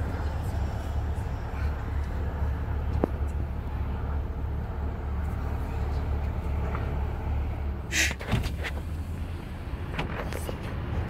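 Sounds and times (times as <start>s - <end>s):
jet airliner low rumble: 0.0s - 11.0s.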